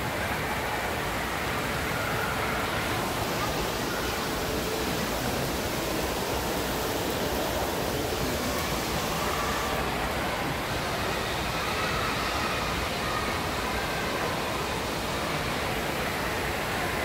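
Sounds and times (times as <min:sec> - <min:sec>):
rushing water din: 0:00.0 - 0:17.0.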